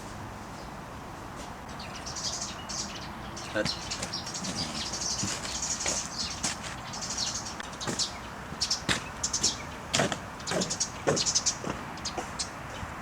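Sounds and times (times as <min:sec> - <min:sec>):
small birds chirping: 0:01.7 - 0:13.0.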